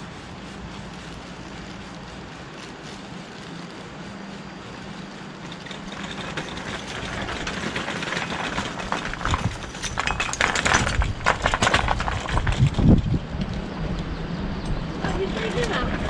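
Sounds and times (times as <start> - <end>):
hands rustling and clicking: 0.0 - 14.1
steady low hum: 0.0 - 16.0.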